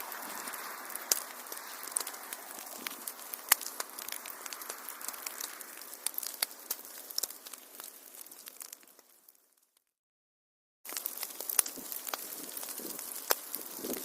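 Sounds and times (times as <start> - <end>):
fire crackling and popping: 0.0 - 9.9, 10.8 - 14.0.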